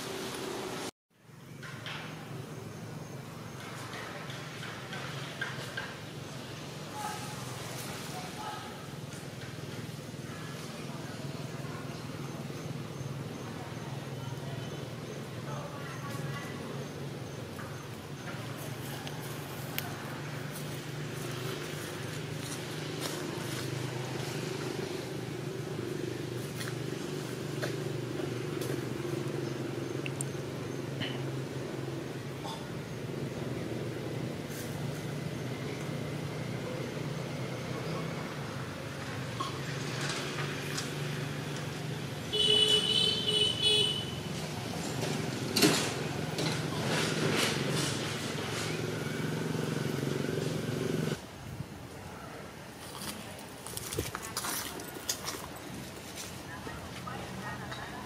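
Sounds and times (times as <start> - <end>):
background noise: 1.2 - 58.0.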